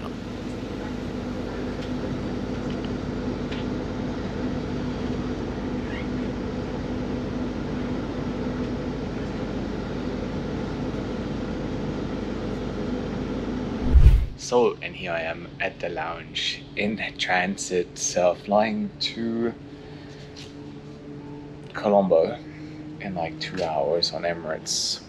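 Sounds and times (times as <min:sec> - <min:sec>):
bus engine and air conditioning hum: 0:00.0 - 0:25.0.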